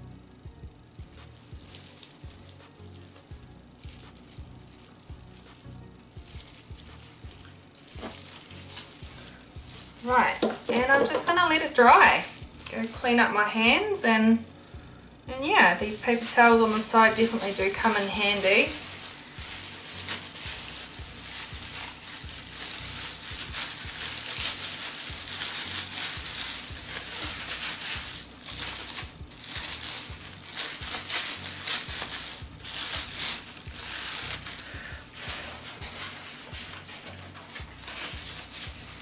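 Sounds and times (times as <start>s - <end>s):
paper towels rustling and crumpling: 1.2s - 14.0s, 15.4s - 39.0s.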